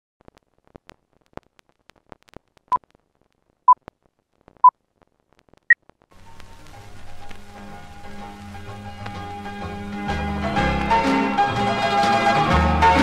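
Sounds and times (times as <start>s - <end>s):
faint film clicks and crackle: 0.2s - 11.1s.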